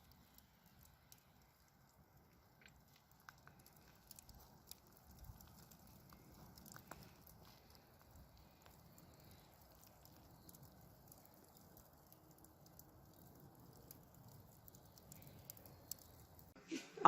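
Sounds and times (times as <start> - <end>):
faint small clicks and ticks: 0.0 - 16.6.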